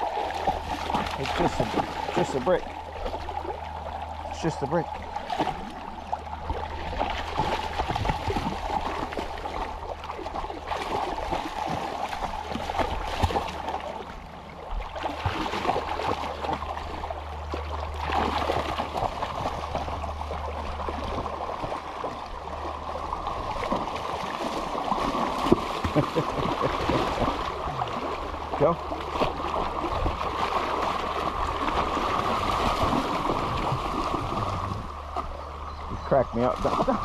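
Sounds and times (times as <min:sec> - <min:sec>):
splashing in water: 0:00.0 - 0:35.4, 0:36.4 - 0:37.0
river water gurgling over rocks: 0:00.0 - 0:37.0.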